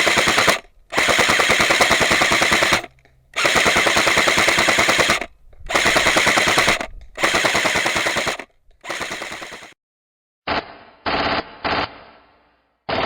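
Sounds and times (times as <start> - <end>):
airsoft gun firing full auto: 0.0 - 9.8, 10.5 - 13.0.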